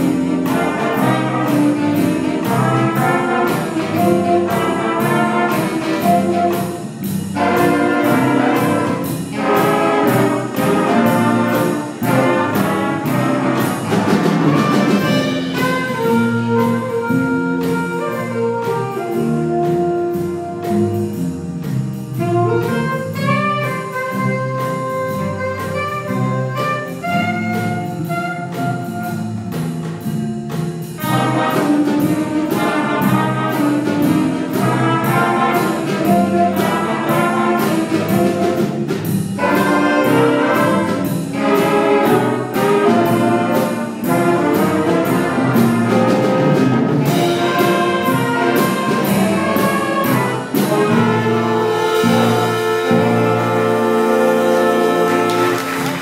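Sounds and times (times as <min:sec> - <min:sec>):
jazz band playing: 0:00.0 - 0:56.0.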